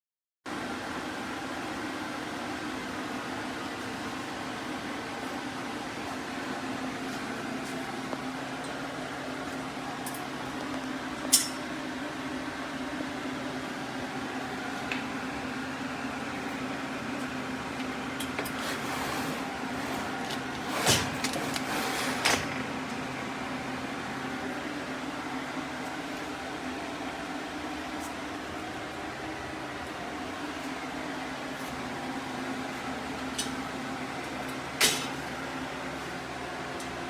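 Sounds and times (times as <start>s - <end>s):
mechanical hum: 0.5s - 37.0s.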